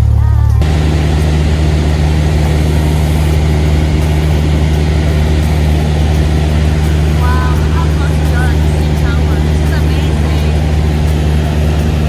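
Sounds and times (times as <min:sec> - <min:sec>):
propeller plane engine droning: 0:00.6 - 0:12.0.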